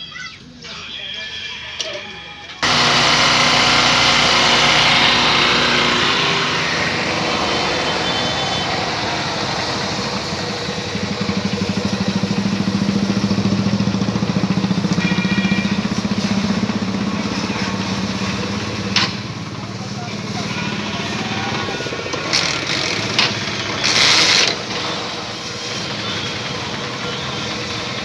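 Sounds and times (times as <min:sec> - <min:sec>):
motorcycle engine idling: 0:02.6 - 0:28.0.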